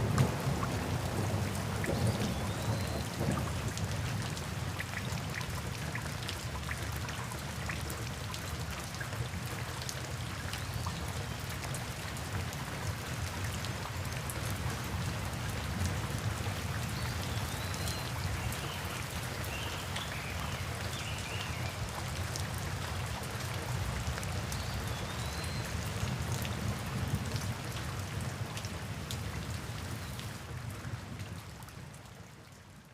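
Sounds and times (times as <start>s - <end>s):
raindrops ticking close by: 0.0s - 32.9s
steady rain: 0.0s - 32.9s.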